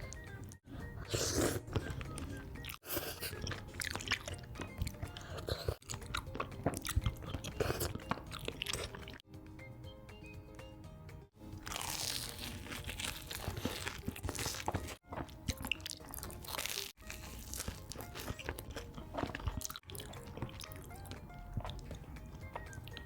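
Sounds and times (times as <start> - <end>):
music: 0.0 - 23.0
crunchy bites and chewing: 0.9 - 9.2, 11.6 - 23.0.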